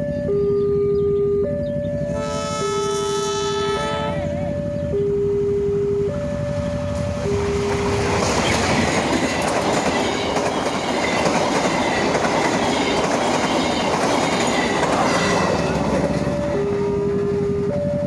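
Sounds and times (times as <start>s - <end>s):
passenger train passing at speed: 0.0s - 18.0s
two-tone crossing warning alarm: 0.0s - 18.0s.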